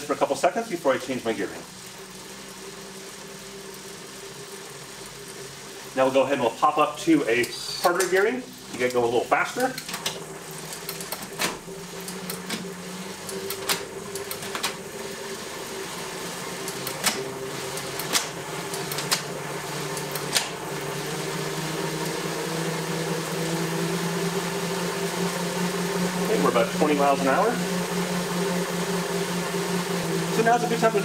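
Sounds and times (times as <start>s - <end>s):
bike tyre whirring on roller: 0.8s - 6.1s, 10.2s - 31.0s.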